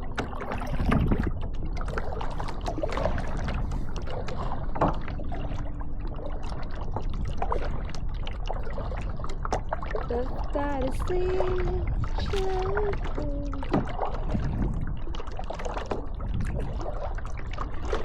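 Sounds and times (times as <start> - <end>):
kayak paddles splashing in water: 0.0 - 18.0
steady low rumble: 0.0 - 18.0.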